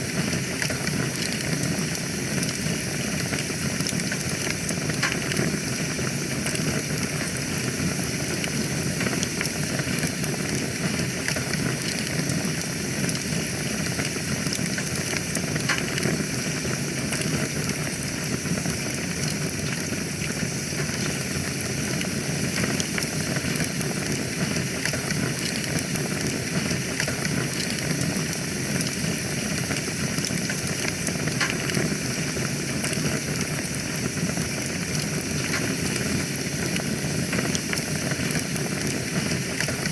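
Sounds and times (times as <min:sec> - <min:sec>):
fire crackling and popping: 0:00.0 - 0:39.9
flames rushing in fireplace: 0:00.0 - 0:39.9.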